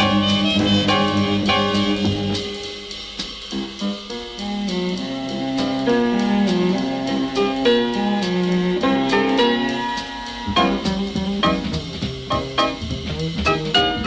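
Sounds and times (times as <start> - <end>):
jazz band playing: 0.0 - 14.0
low melody line: 0.0 - 14.0.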